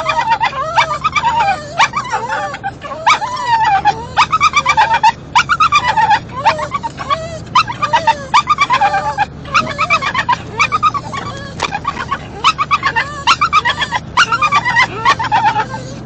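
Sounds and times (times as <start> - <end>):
car engine hum: 0.0 - 16.0
small dogs whining and yipping: 0.0 - 16.0.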